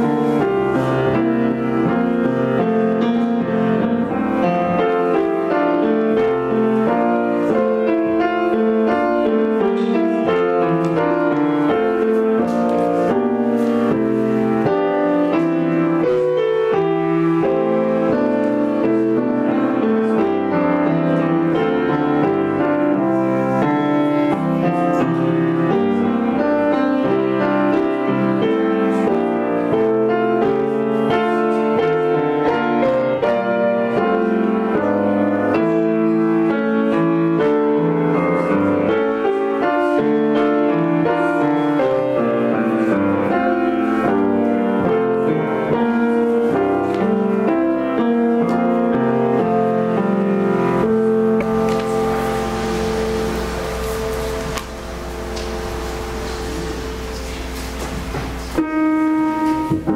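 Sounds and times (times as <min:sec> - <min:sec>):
keyboard instrument prelude: 0:00.0 - 0:59.9.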